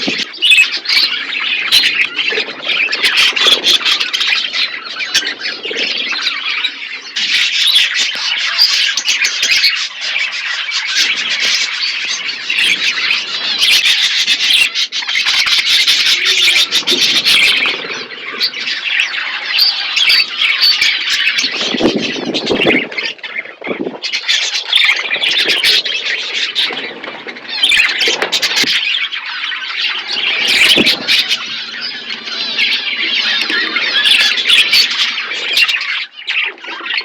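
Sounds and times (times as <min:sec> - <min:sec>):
parrots chattering and squawking: 0:00.0 - 0:37.0.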